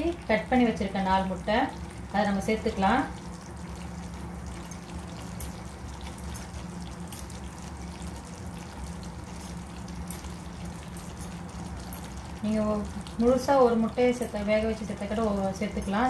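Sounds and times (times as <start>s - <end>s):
gravy bubbling in a pan: 0.0s - 16.0s.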